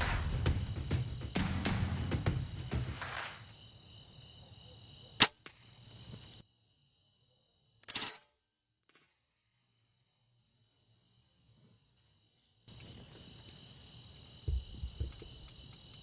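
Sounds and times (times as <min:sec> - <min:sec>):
insects trilling: 0:00.0 - 0:07.4, 0:10.0 - 0:16.0.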